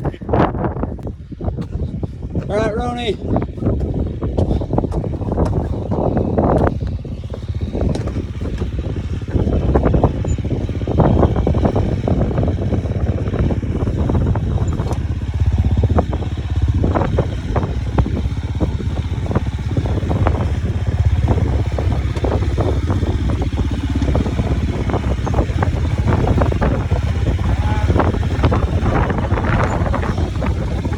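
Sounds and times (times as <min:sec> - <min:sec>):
dirt bike engine at low revs: 0:00.0 - 0:30.9.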